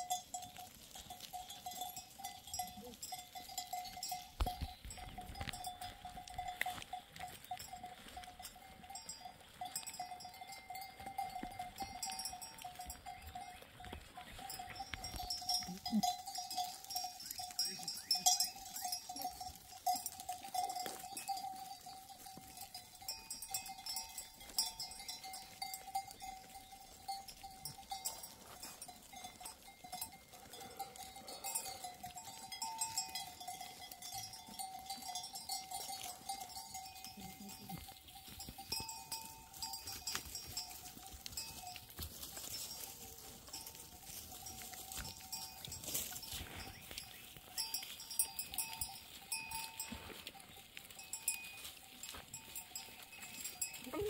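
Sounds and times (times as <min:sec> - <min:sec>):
animal bells ringing and clanking: 0:00.0 - 0:54.0.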